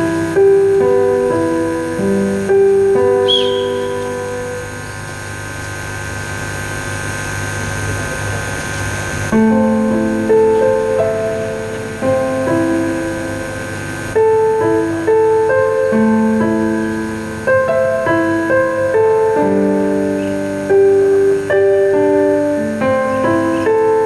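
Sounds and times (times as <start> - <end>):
slow gentle piano melody: 0.0 - 5.6, 9.2 - 24.0.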